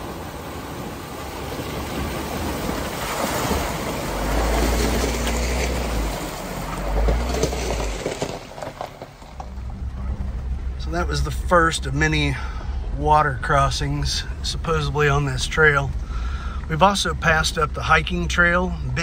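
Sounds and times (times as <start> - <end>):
low engine rumble: 0.0 - 19.0
tyres splashing through water: 0.0 - 19.0.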